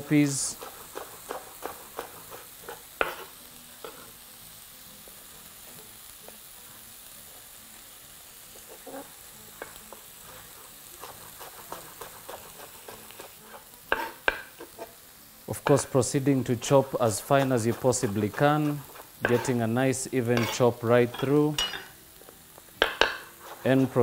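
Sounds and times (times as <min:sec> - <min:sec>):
faint sizzle of frying meat: 0:00.0 - 0:24.0.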